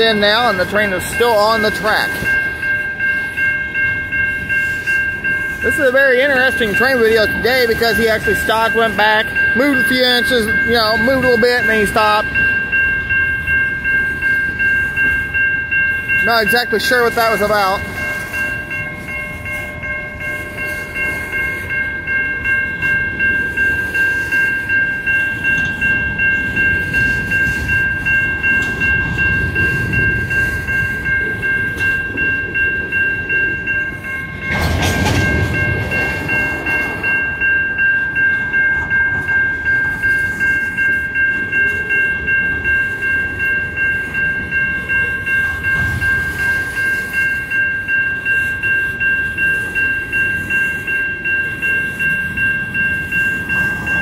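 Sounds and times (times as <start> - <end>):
freight cars rumbling and rattling: 0.0 - 21.1, 21.7 - 47.9, 52.2 - 54.0
electronic crossing bell ringing: 0.0 - 54.0.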